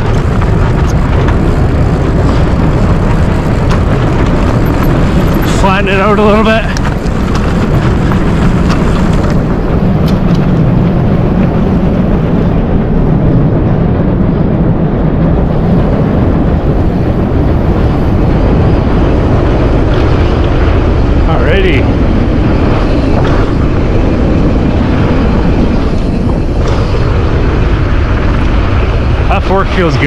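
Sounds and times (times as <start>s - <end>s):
bike clicks and rattles: 0.0s - 12.6s, 15.6s - 29.0s
tyres rolling over dirt trail: 0.0s - 30.0s
wind rushing on microphone: 0.0s - 30.0s.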